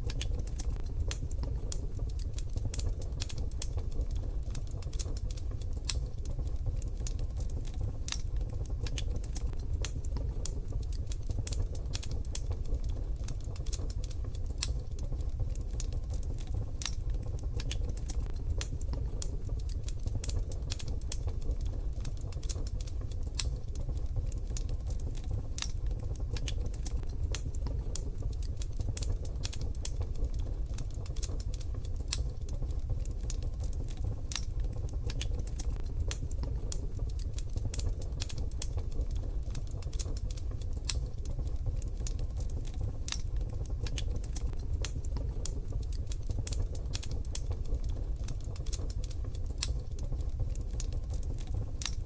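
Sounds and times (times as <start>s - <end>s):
fire low rumble: 0.0s - 52.0s
wood fire crackling and popping: 0.0s - 52.0s.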